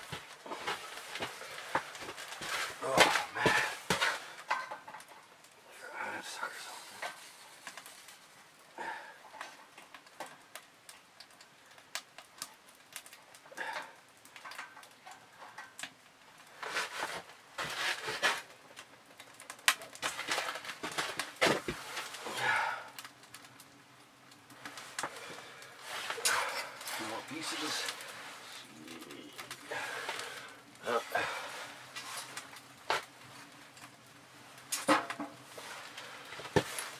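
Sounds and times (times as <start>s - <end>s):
firewood knocks and rustling: 0.0s - 5.6s, 6.2s - 23.7s, 24.3s - 36.9s.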